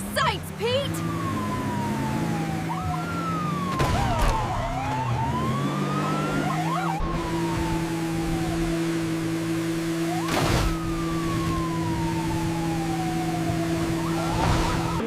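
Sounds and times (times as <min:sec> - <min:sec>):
police siren wailing: 0:00.1 - 0:15.0.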